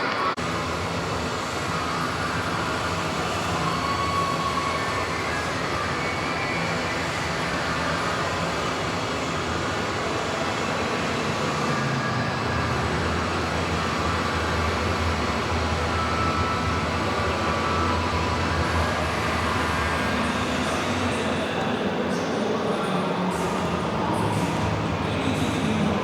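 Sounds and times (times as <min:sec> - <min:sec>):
rumbling background noise: 0:00.0 - 0:26.0.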